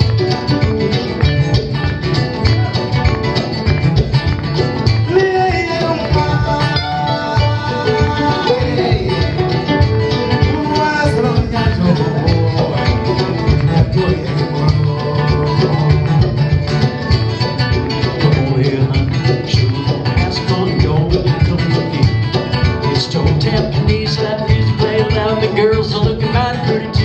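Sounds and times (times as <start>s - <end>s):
acoustic band music: 0.0s - 27.0s
plucked string instruments: 0.0s - 27.0s.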